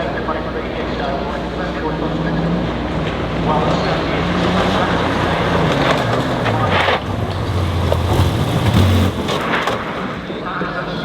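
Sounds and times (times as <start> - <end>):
rally car engine running hard: 0.0 - 11.0
rough noisy wash: 0.0 - 11.0.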